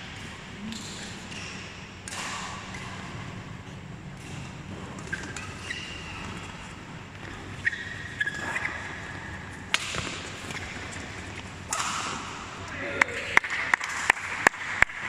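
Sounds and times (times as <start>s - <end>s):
shoes squeaking on court: 0.0s - 12.4s
rackets striking shuttlecock: 0.0s - 12.8s.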